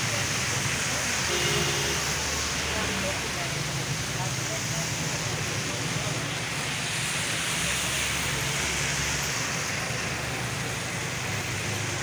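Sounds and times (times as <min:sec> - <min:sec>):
rain falling: 0:00.0 - 0:12.0
vehicle passing on wet road: 0:00.0 - 0:12.0.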